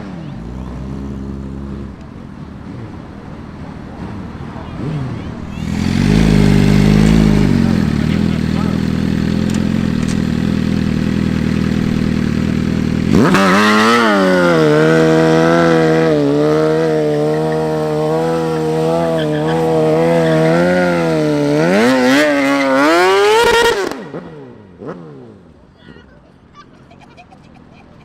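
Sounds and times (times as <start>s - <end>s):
engine revving: 0.0s - 25.5s.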